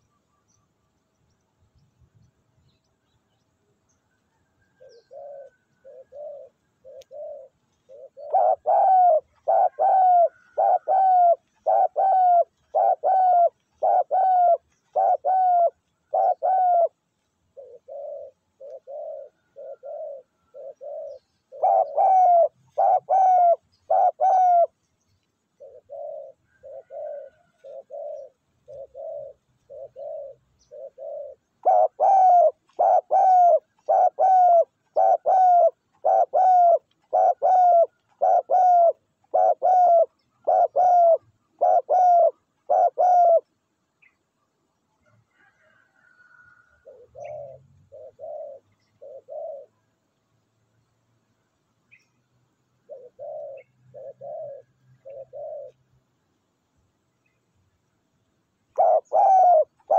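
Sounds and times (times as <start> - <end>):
doves cooing: 3.8 - 44.3, 45.0 - 50.0, 52.8 - 55.9, 58.7 - 59.9.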